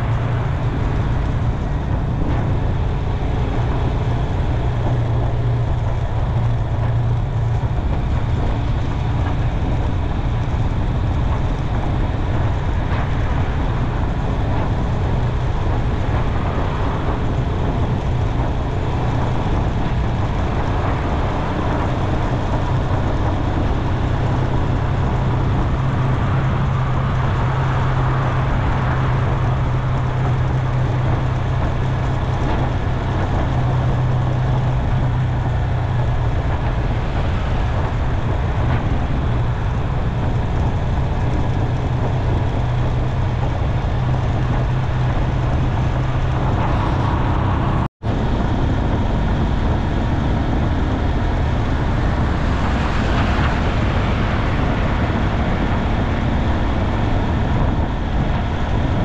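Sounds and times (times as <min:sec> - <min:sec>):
motorcycle engine hum: 0:00.0 - 0:59.0
wind and road noise: 0:00.0 - 0:59.0.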